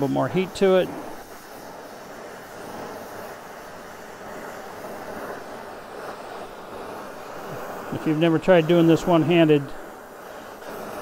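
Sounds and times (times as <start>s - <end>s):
gas torch flame hissing: 0.0s - 11.0s.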